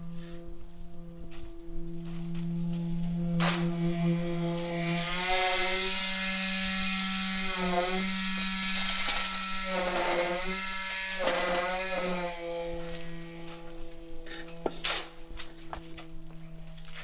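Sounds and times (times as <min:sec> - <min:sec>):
concrete vibrator motor buzzing: 0:00.0 - 0:17.0.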